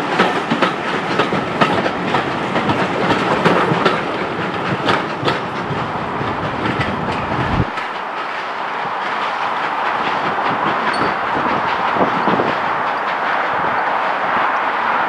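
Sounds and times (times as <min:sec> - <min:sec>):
train wheels clicking on rails: 0:00.0 - 0:15.0.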